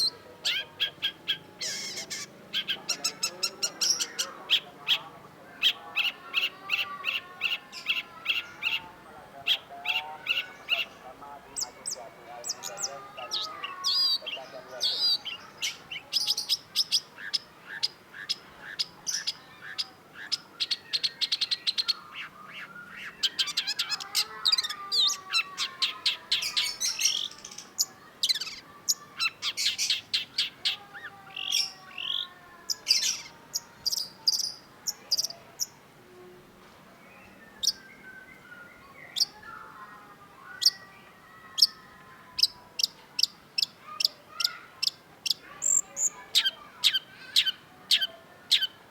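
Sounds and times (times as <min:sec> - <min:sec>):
bird singing chirps and trills: 0:00.0 - 0:36.3, 0:36.9 - 0:48.9.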